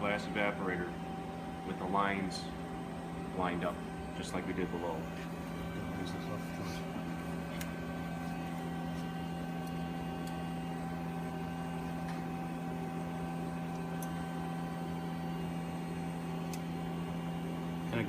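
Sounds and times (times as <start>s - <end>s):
mechanical hum of equipment: 0.0s - 18.0s.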